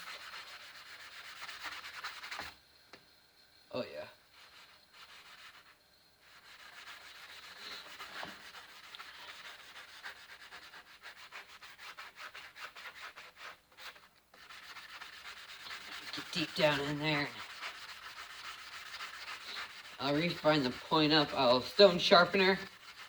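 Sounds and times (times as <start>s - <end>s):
hand sanding a steel blade: 0.0s - 2.5s, 4.3s - 23.0s.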